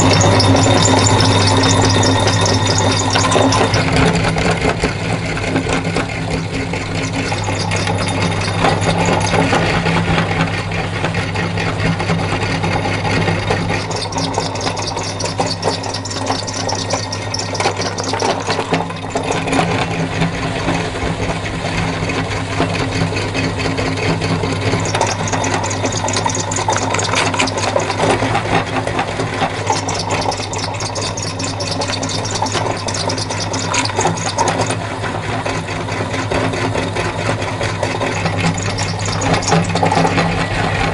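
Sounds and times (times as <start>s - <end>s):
meat grinder motor humming: 0.0s - 40.9s.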